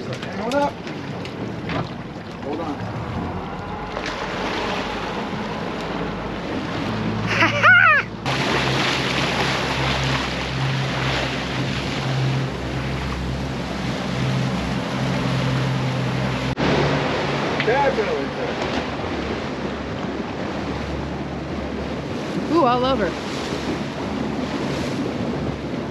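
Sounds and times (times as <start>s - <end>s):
outboard engines droning: 0.0s - 25.9s
water rushing along hull: 0.0s - 25.9s
wind on microphone: 1.0s - 25.9s.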